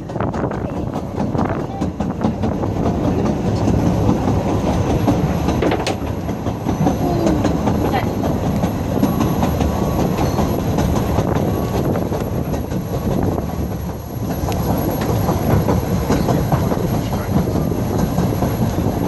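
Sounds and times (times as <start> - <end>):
railway coach rumbling: 0.0 - 19.0
wheels clicking over rail joints: 0.0 - 19.0.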